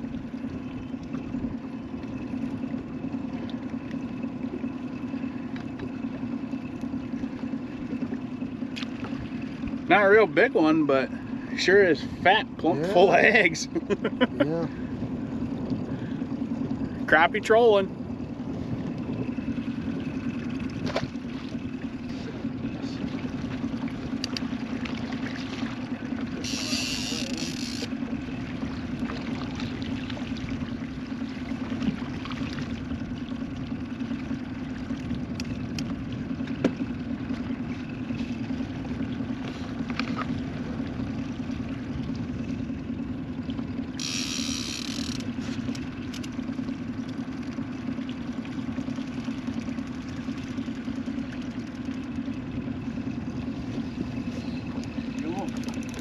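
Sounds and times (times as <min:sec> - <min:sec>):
outboard boat motor humming: 0:00.0 - 0:56.0.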